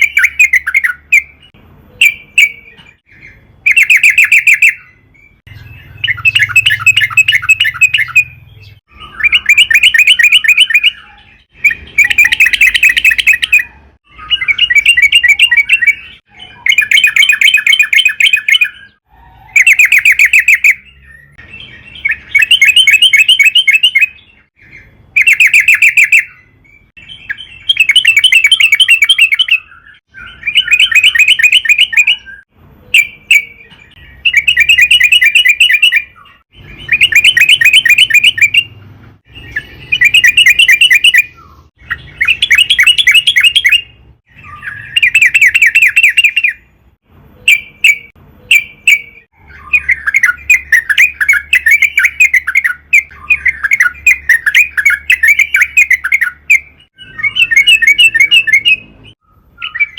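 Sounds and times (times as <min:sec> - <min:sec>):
bulbul bubbling song: 0:00.0 - 0:46.7, 0:47.4 - 0:59.9.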